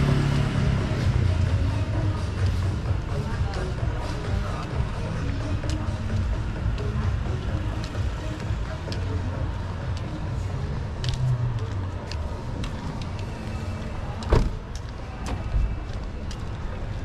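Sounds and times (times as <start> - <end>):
passing traffic rumble: 0.0 - 17.0.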